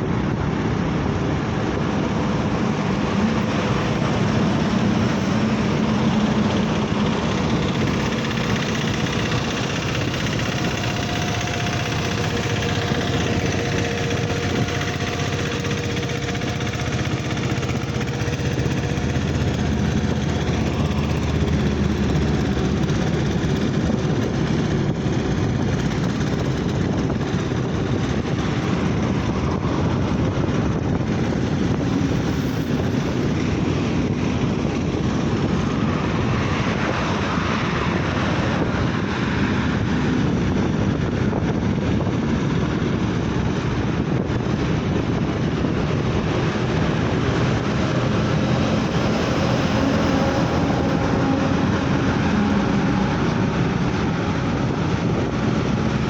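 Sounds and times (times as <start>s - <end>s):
vehicle road rumble: 0.0s - 56.0s.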